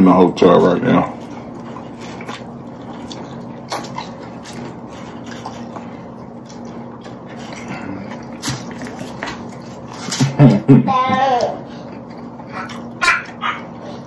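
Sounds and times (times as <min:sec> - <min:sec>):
steady low hum: 0:00.0 - 0:14.0
wet chewing sounds: 0:00.9 - 0:10.5, 0:11.4 - 0:14.0.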